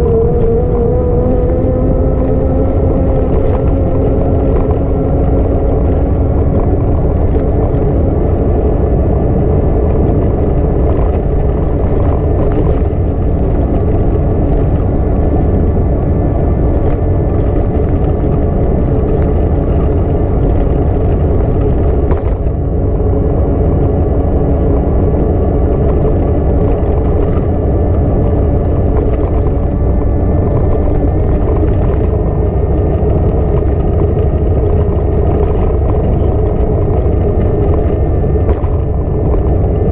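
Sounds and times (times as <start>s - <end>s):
low hum: 0.0s - 39.9s
wind rumble on microphone: 0.0s - 39.9s.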